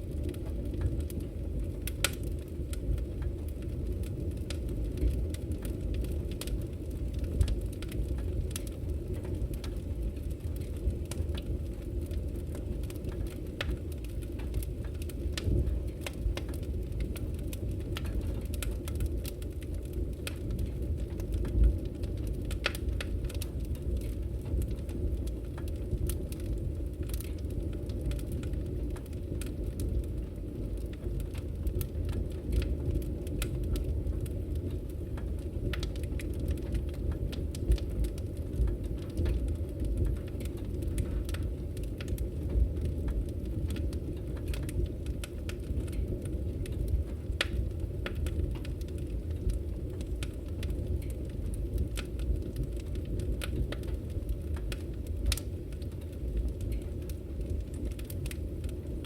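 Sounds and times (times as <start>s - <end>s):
burning logs crackling and popping: 0.0s - 59.0s
fire roaring in wood stove: 0.0s - 59.0s.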